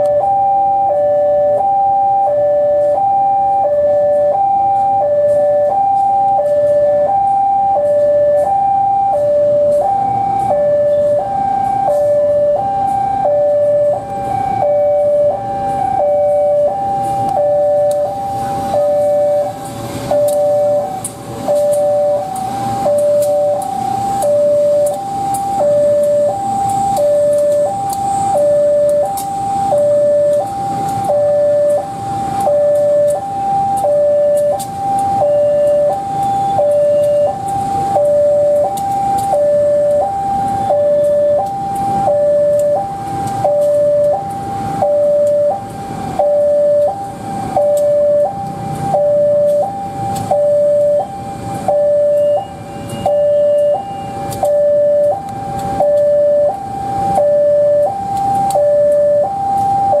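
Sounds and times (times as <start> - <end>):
level crossing two-note alarm: 0.0 - 60.0
passing train rumble and clatter: 0.1 - 55.8.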